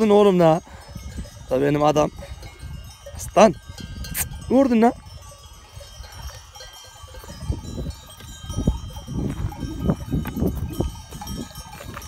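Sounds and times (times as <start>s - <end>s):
sheep bells clinking: 0.0s - 12.0s.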